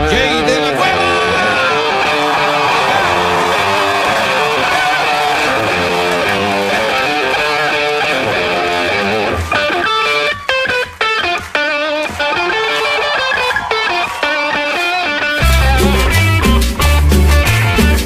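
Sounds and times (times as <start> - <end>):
instrumental cumbia music: 0.0 - 18.0.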